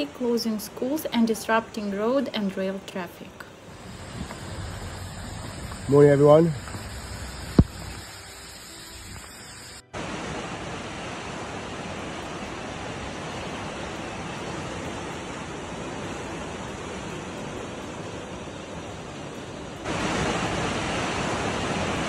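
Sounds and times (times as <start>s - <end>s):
outdoor noise: 0.0s - 22.0s
heavy rain: 3.6s - 22.0s
running floodwater: 3.6s - 22.0s.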